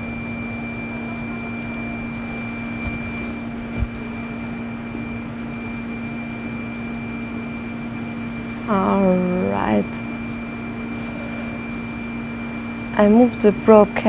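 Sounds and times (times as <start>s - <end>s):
machine hum with high whistle: 0.0s - 14.0s.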